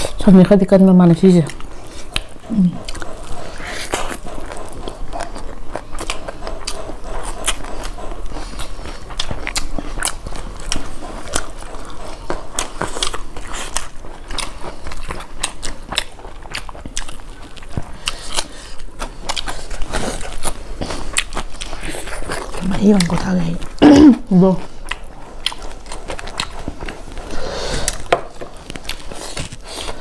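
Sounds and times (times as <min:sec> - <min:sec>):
chewing with wet mouth clicks: 0:01.4 - 0:30.0.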